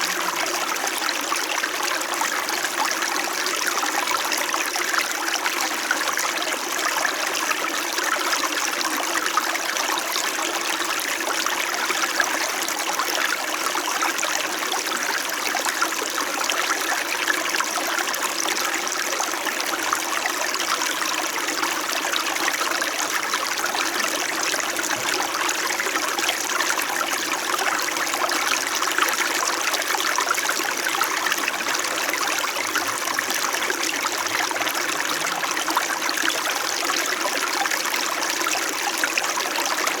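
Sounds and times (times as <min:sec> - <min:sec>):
stream babbling over rocks: 0:00.0 - 0:08.1, 0:13.6 - 0:40.0.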